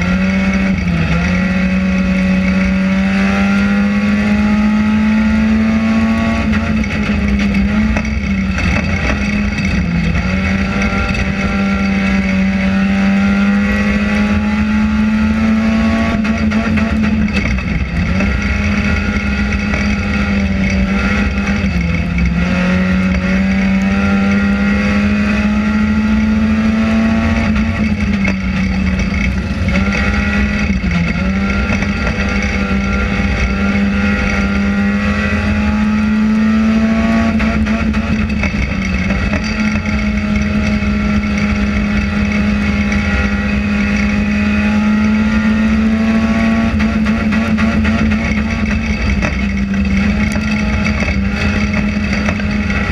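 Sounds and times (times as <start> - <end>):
race car engine at high revs: 0.0 - 52.9.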